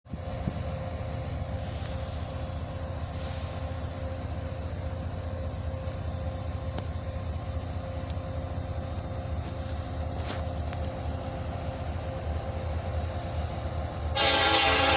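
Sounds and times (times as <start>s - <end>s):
diesel locomotive engine rumble: 0.0s - 14.9s.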